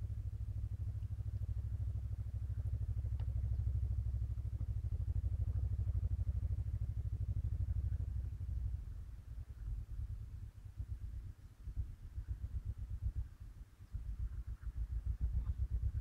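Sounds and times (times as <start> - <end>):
engine pulsing: 0.0 - 13.3.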